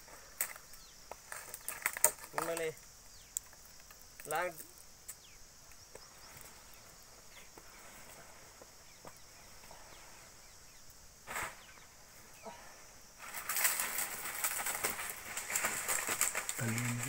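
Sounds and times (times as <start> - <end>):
crackling rustle: 0.0 - 17.0.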